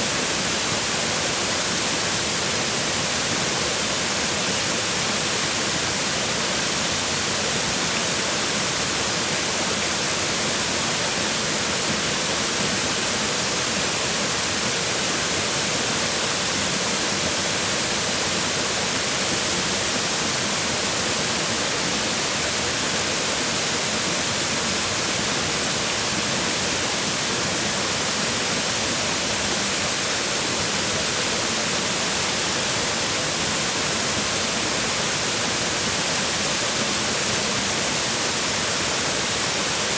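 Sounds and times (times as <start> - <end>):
waterfall splashing on rocks: 0.0 - 39.9.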